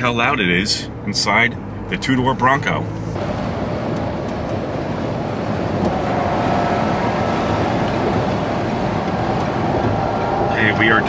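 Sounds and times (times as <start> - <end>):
car cabin road and wind noise: 0.0 - 11.0.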